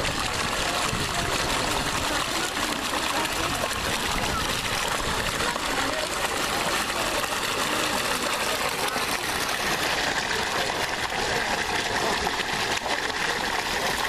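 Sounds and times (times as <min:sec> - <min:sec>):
water pouring and circulating: 0:00.0 - 0:14.0.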